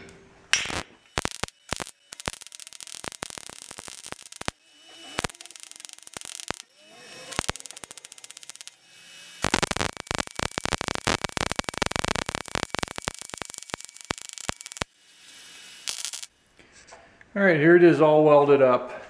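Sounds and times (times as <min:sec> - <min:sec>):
welder arc crackling: 0:00.4 - 0:16.6.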